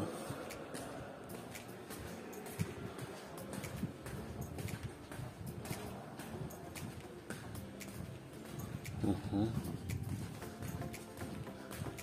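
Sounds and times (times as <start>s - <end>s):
faint background music: 0.0s - 12.0s
footsteps on marble floor: 0.0s - 12.0s.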